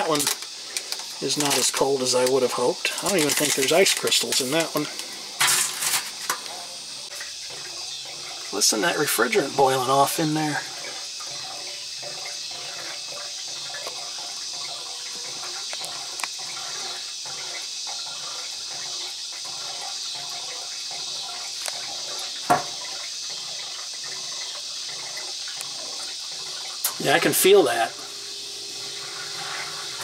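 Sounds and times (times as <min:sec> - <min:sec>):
refrigerant gurgling and hissing: 0:00.0 - 0:30.0.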